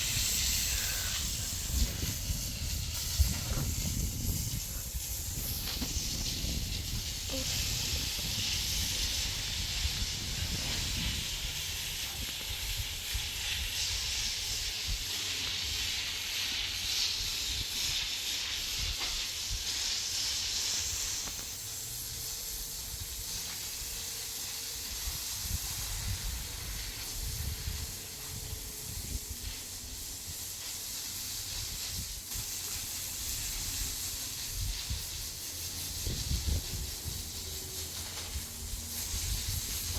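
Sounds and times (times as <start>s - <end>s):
steady hissing noise: 0.0s - 39.9s.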